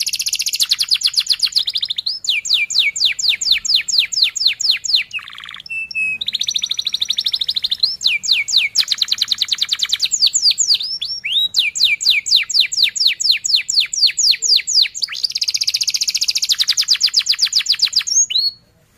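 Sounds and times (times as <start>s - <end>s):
canary singing trills: 0.0s - 18.7s.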